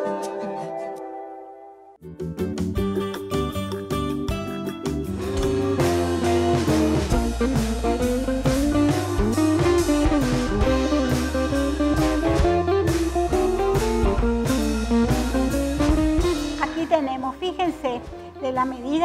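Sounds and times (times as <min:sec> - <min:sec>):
guitar melody with bending notes: 0:00.0 - 0:18.9
drum kit beat: 0:02.4 - 0:19.0.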